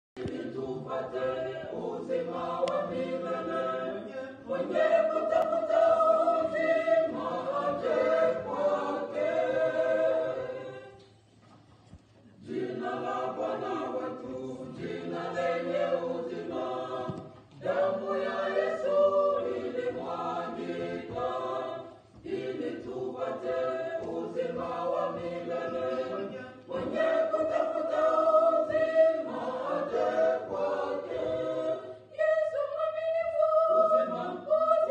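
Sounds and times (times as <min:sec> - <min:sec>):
choir singing a hymn: 0:00.2 - 0:11.3, 0:12.3 - 0:34.9.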